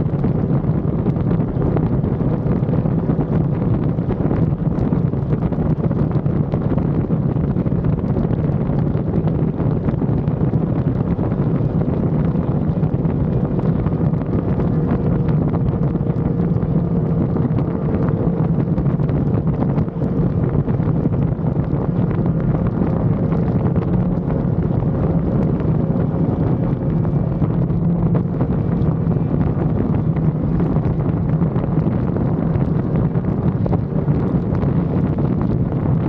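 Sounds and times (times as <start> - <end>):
motorcycle engine cruising: 0.0 - 36.0
wind rush on microphone: 0.0 - 36.0.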